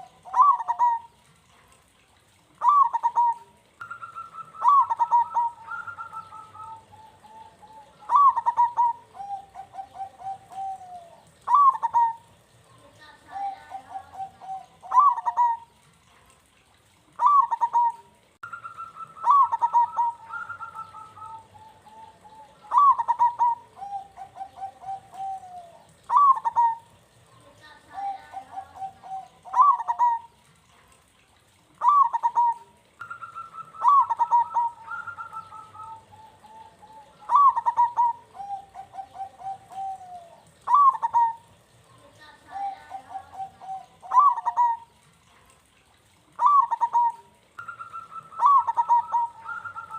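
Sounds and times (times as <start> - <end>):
dove cooing: 0.0 - 1.3, 2.6 - 16.3, 17.1 - 30.5, 31.8 - 45.5, 46.3 - 49.9.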